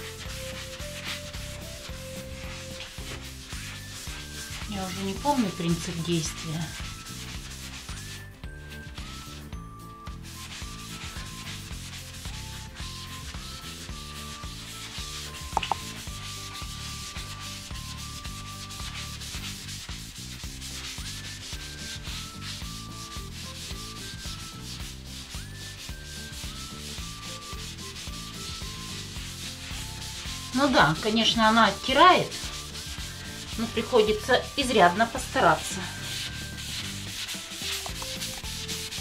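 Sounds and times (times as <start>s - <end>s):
sponge scrubbing a bathtub: 0.0s - 39.0s.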